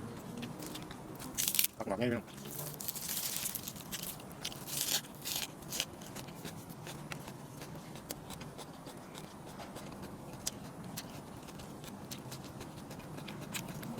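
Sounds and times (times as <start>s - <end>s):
chewing and crunching food: 0.1s - 13.9s.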